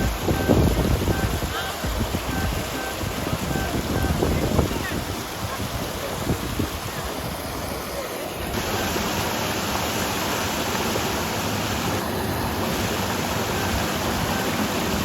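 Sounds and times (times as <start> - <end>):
water pouring over waterfall: 0.0 - 15.0.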